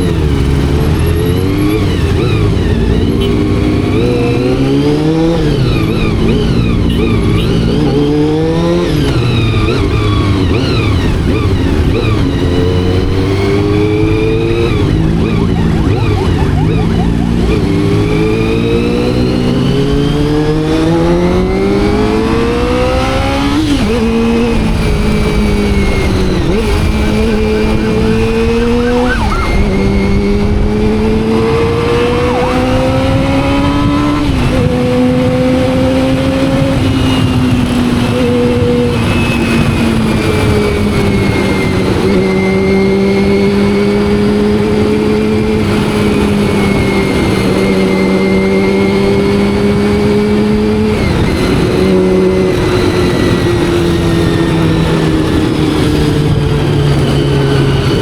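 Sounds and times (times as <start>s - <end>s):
motorcycle engine shifting gears: 0.0s - 58.0s.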